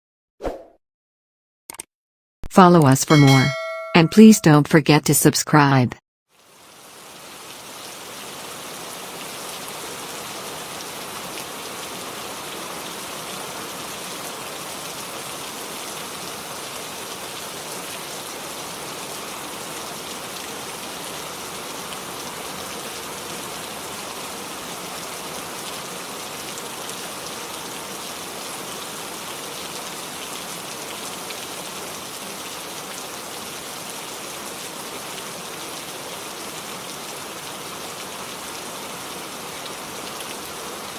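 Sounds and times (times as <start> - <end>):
steady rain hiss: 6.4 - 40.9.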